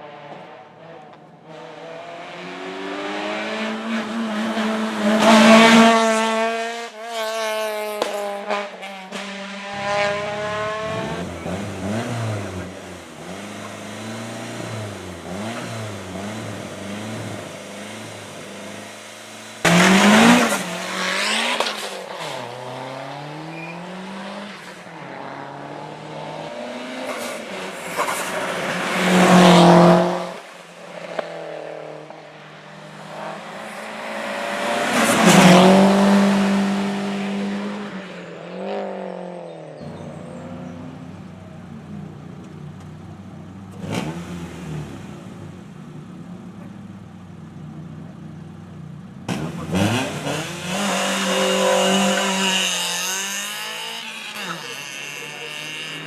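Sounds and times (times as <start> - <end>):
cars passing close: 0.0 - 56.0
racing car engines at full throttle: 0.0 - 56.0.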